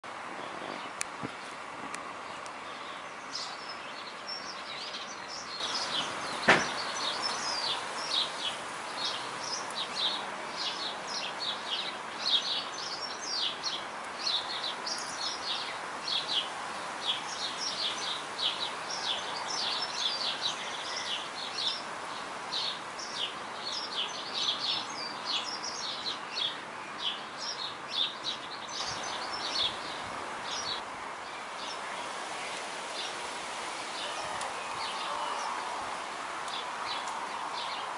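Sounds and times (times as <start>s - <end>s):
outdoor background hiss: 0.0s - 37.9s
birds chirping: 0.2s - 37.9s.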